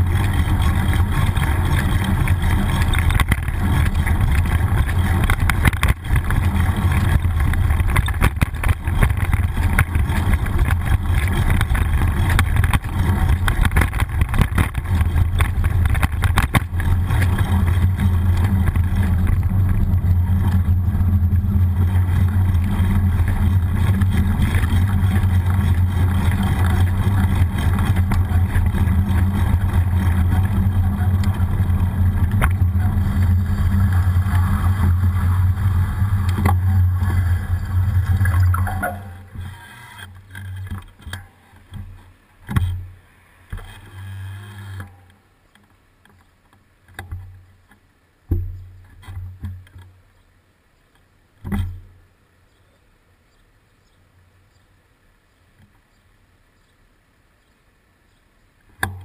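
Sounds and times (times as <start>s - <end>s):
bicycle knocks and rattles: 0.0s - 50.0s, 51.4s - 52.0s, 58.7s - 59.0s
road rumble: 0.0s - 59.0s.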